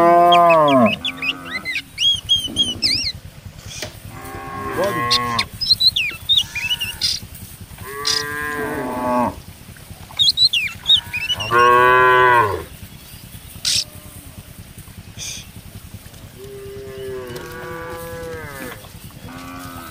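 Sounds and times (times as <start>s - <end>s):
cattle mooing: 0.0s - 3.2s, 3.8s - 9.5s, 10.1s - 12.8s, 13.6s - 14.6s, 16.3s - 19.9s.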